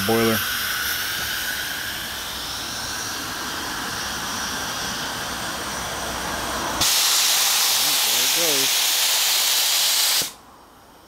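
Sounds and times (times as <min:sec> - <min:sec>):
safety valve steam blowing off: 0:00.0 - 0:10.4
steam engine hissing: 0:00.0 - 0:10.4.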